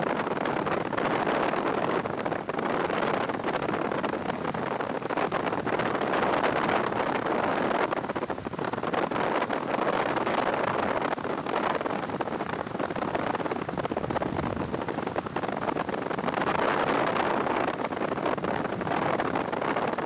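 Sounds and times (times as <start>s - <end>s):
wind and rain rushing: 0.0s - 20.0s.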